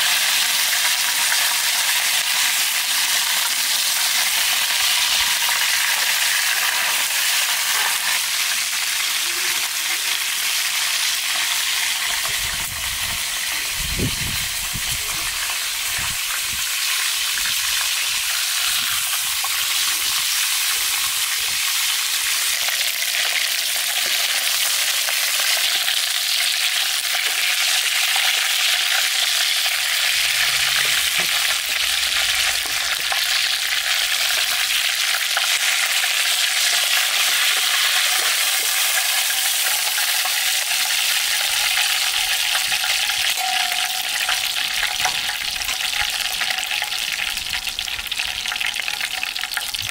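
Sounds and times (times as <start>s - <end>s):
meat sizzling in oil: 0.0s - 49.9s.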